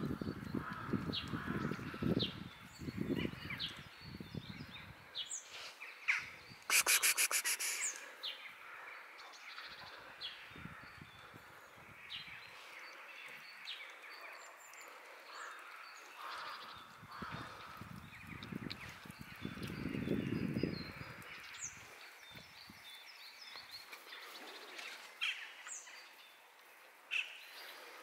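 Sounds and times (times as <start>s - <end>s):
small birds chirping: 0.3s - 28.0s.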